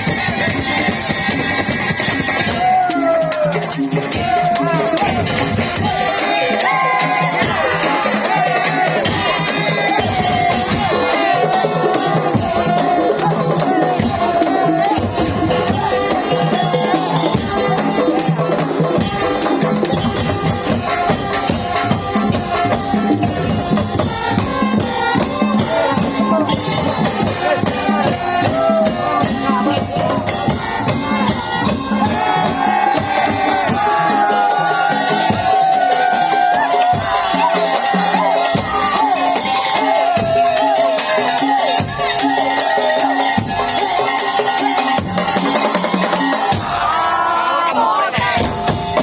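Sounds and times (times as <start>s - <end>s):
wooden slit drums: 0.0s - 47.2s
rattling percussion: 0.0s - 47.5s, 48.2s - 49.0s.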